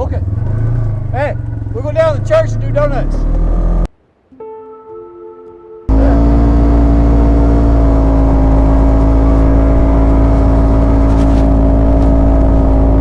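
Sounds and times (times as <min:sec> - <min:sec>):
vehicle engine running: 0:00.0 - 0:03.9, 0:05.9 - 0:13.0.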